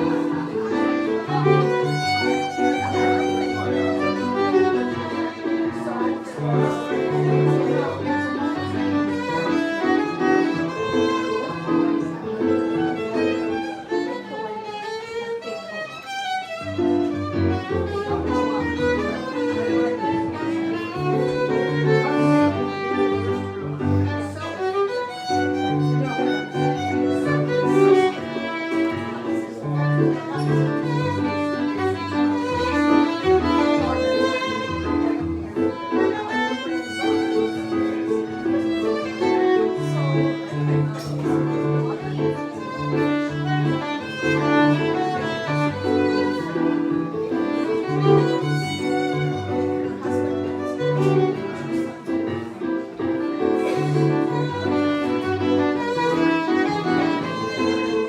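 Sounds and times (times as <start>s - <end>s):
piano accompaniment: 0.0s - 58.0s
violin melody: 0.0s - 58.0s.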